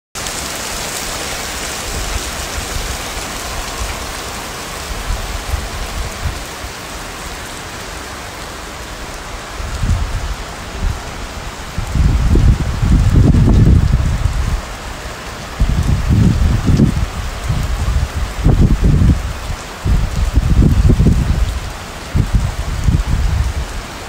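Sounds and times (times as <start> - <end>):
heavy rain falling: 0.2 - 24.0
low rumbling: 1.9 - 23.8.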